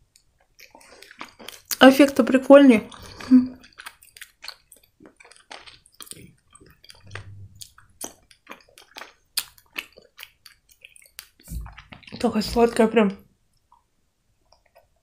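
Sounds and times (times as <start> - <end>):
person chewing candy: 0.0 - 12.9, 13.5 - 15.0.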